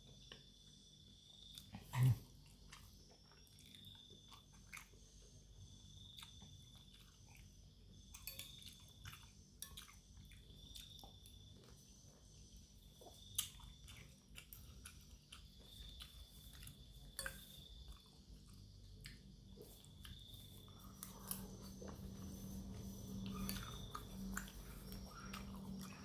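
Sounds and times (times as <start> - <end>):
person chewing: 1.4 - 5.3, 5.9 - 11.9, 12.8 - 26.0.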